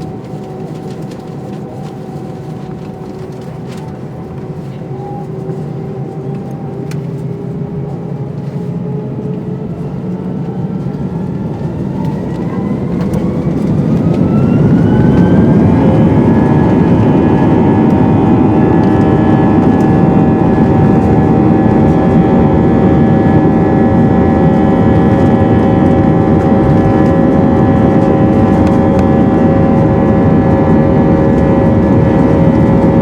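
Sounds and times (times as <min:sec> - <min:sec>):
jet engines spooling up: 0:05.2 - 0:33.0.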